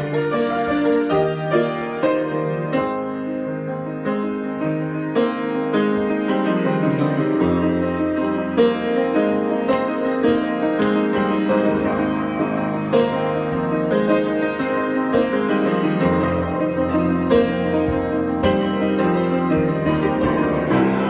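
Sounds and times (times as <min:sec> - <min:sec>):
piano improvisation: 0:00.0 - 0:21.0.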